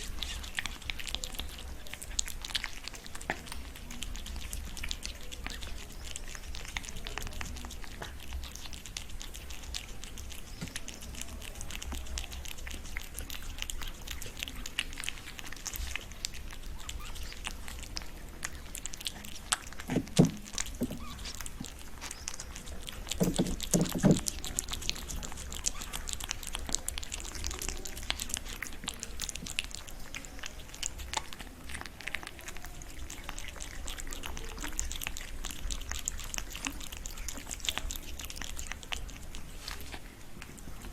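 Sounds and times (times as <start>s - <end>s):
cat chewing wetly: 0.0s - 40.9s.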